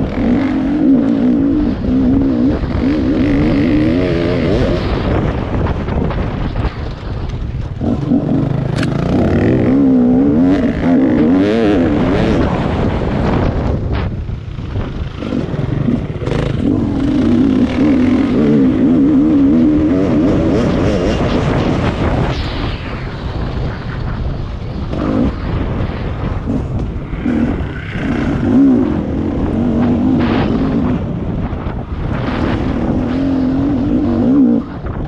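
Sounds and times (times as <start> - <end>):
motorcycle engine revving: 0.0 - 6.1, 6.9 - 22.1, 24.9 - 35.0.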